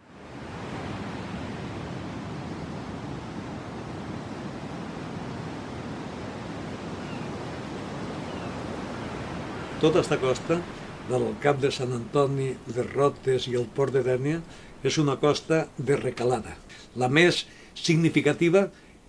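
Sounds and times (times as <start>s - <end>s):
sea surf: 0.0s - 19.0s.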